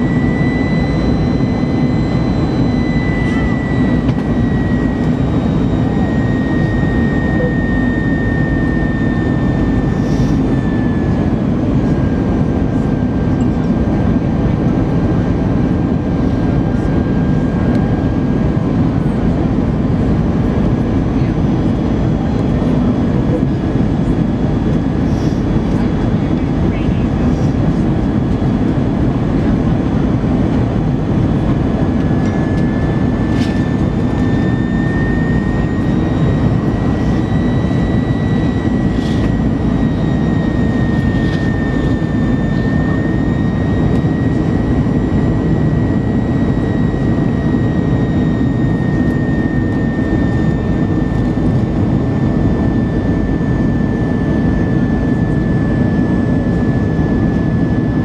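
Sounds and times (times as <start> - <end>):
airflow and engine rush: 0.0 - 58.0
high engine whine: 0.0 - 58.0.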